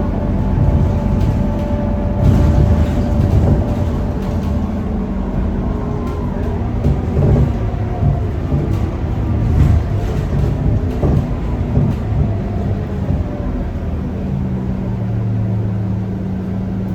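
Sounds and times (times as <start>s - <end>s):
bus diesel engine running: 0.0s - 16.9s
bus rattling: 0.0s - 16.9s.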